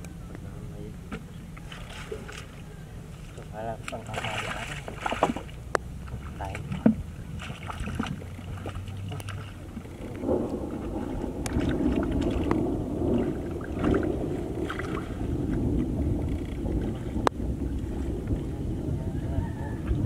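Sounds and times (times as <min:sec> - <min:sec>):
muddy water splashing and sloshing: 0:01.2 - 0:20.0.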